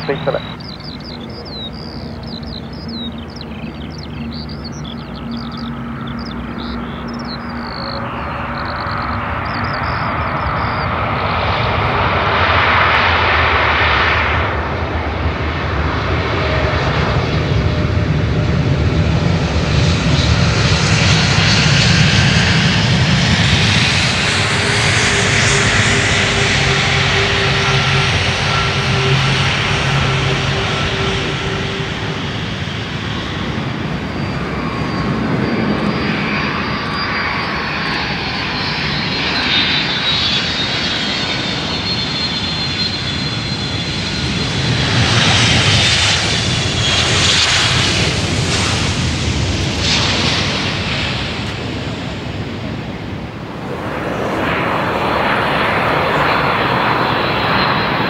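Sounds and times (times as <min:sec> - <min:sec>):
high engine whine: 0:00.0 - 0:58.0
jet engines rumbling and roaring: 0:00.0 - 0:58.0.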